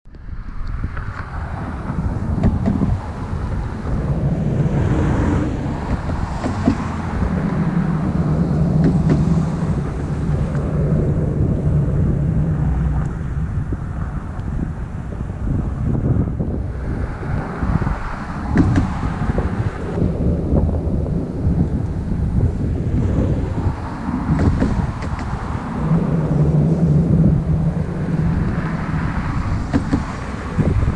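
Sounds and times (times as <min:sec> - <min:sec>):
low rumble: 0:00.1 - 0:30.9
wind buffeting microphone: 0:00.1 - 0:30.9.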